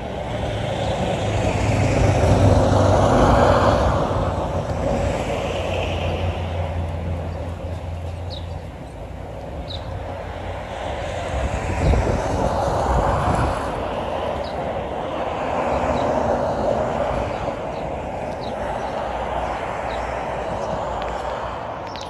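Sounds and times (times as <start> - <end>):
distant mechanical roar: 0.0 - 22.0.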